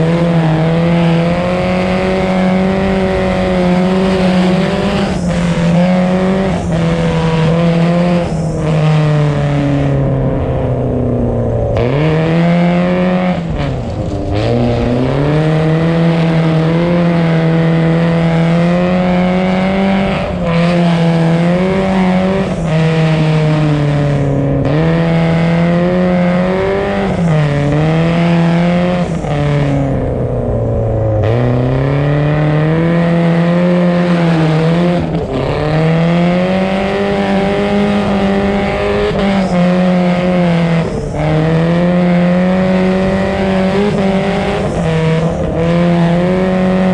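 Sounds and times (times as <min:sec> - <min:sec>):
car engine revving hard: 0:00.0 - 0:46.9.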